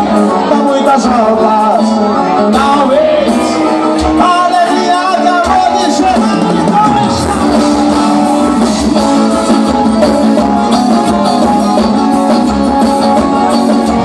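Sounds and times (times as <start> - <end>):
guitar: 0.0 - 14.0
live band playing: 0.0 - 14.0.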